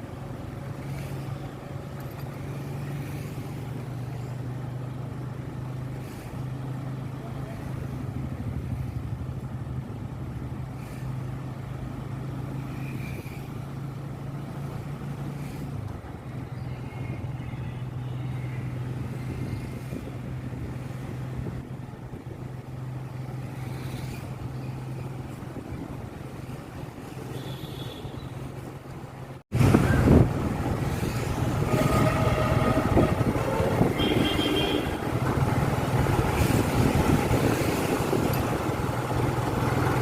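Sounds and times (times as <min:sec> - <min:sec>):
road and traffic noise: 0:00.0 - 0:40.0
vehicle engine humming: 0:00.0 - 0:40.0.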